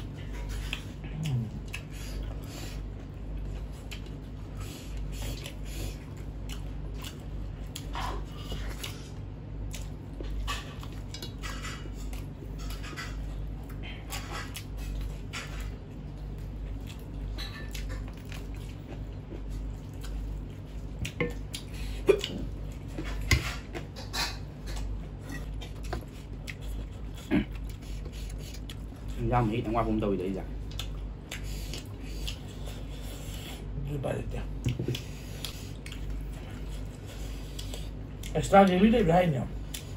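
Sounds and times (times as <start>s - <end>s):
chewing: 0.0s - 29.5s, 30.5s - 33.7s, 34.5s - 38.8s, 39.5s - 39.9s.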